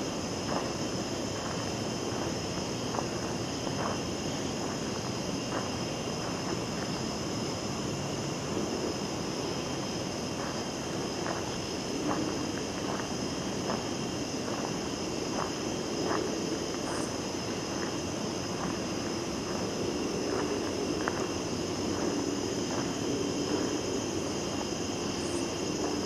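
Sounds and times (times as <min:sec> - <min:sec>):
crickets and insects trilling: 0:00.0 - 0:26.0
footsteps on dirt trail: 0:00.3 - 0:07.8, 0:08.8 - 0:26.0.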